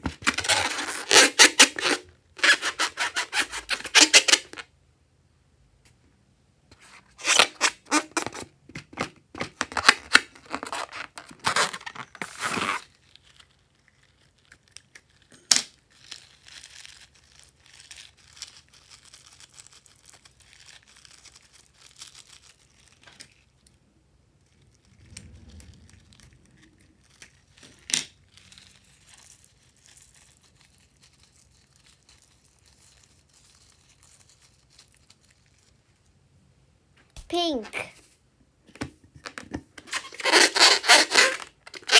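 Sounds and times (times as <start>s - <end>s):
rubber balloon crackling and tearing: 0.0s - 4.7s, 6.9s - 36.1s, 39.2s - 41.9s.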